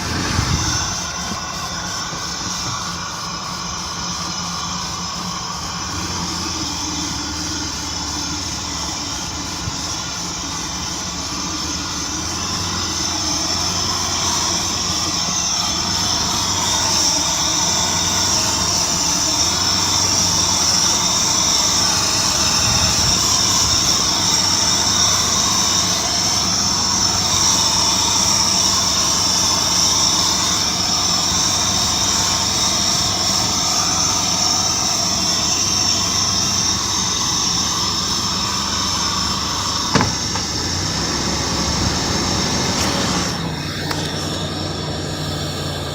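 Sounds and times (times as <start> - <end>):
vehicle engine whining and humming: 0.0 - 45.9.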